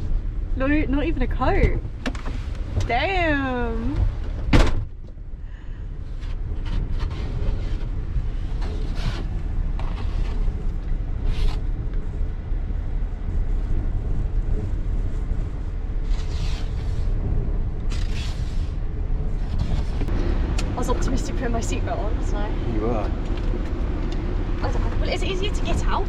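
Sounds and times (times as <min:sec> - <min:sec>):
wind buffeting a van: 0:00.0 - 0:26.0.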